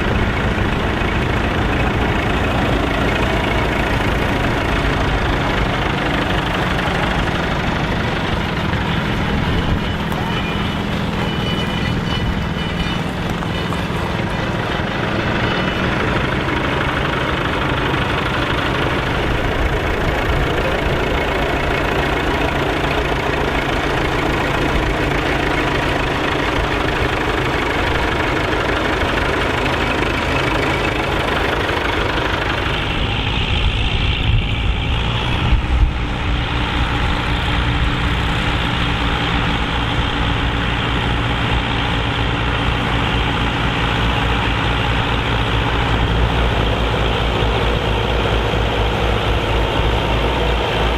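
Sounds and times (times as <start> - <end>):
tractor diesel engines running: 0.0 - 50.9.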